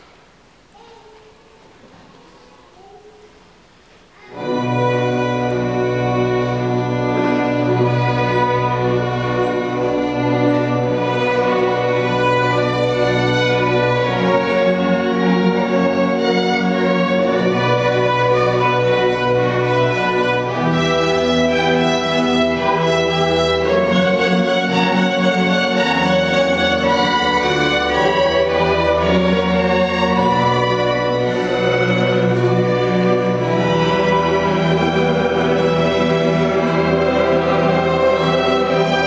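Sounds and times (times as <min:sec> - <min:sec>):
string orchestra slow held chords: 0:04.3 - 0:39.0.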